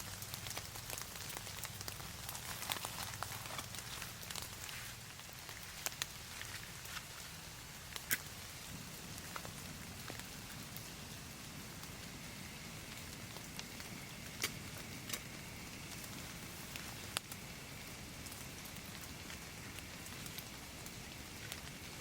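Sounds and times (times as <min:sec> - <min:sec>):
rain pattering on trees: 0:00.0 - 0:22.0.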